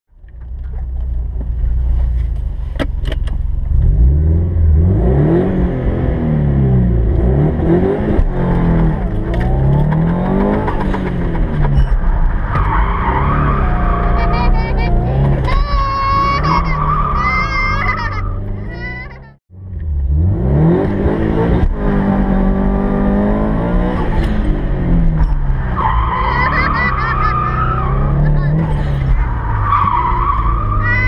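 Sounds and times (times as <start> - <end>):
car engine revving: 3.5 - 31.0.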